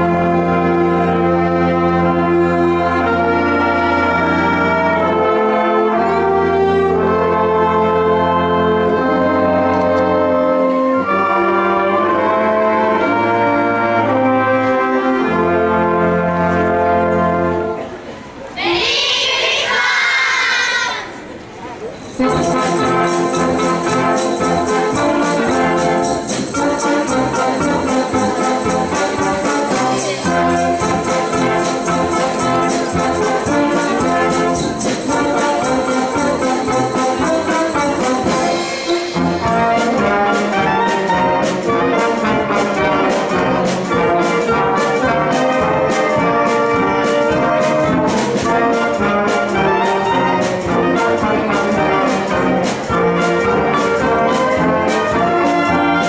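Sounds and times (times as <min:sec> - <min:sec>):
wind band playing upbeat piece: 0:00.0 - 0:56.0.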